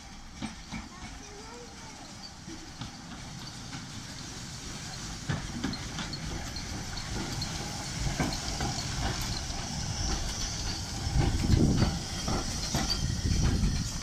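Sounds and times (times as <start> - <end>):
steam hissing: 0.0 - 14.0
train wheels clicking on rails: 0.0 - 14.0.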